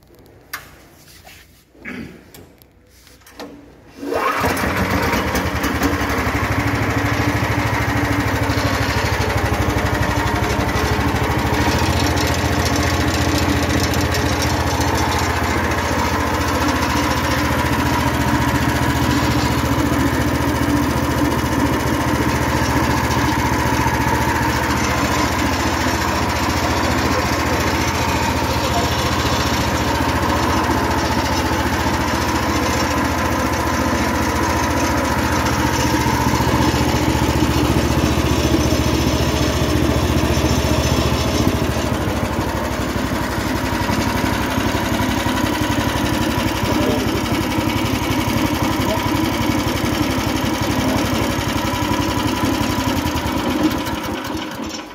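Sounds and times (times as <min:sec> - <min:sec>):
floor saw engine running: 0:03.4 - 0:54.9.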